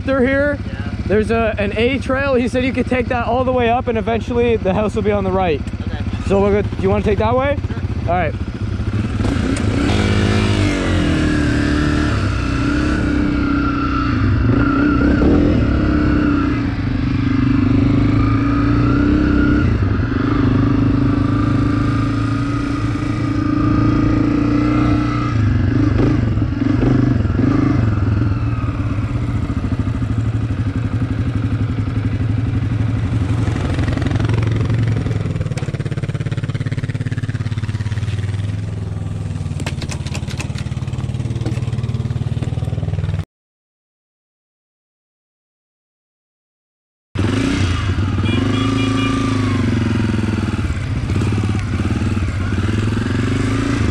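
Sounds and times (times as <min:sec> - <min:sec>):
off-road vehicle engine: 0:00.0 - 0:43.2, 0:47.2 - 0:53.9.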